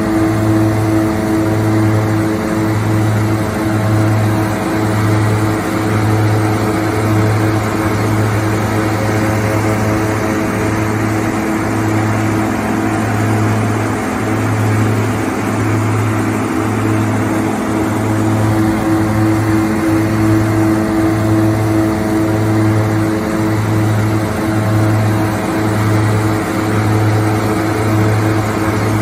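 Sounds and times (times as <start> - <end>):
harvester engine drone: 0.0 - 29.0
machinery whining: 0.0 - 29.0.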